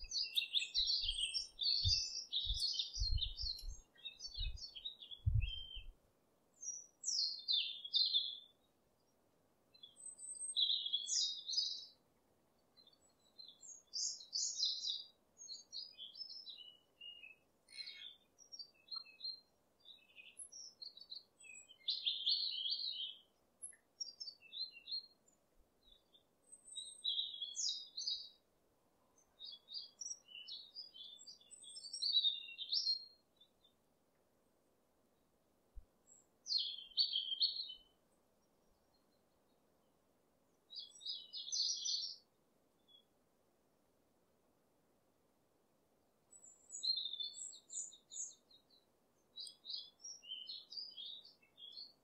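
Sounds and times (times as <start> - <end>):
songbirds chirping and trilling: 0.0 - 43.4, 46.0 - 52.0.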